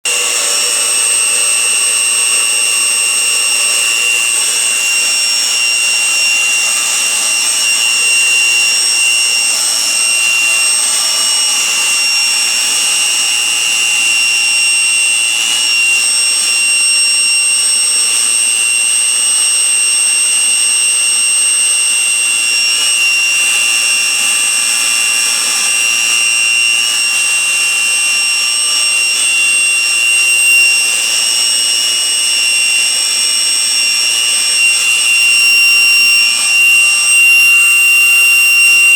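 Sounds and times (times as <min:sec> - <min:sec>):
pump running with high whine: 0:00.0 - 0:38.9.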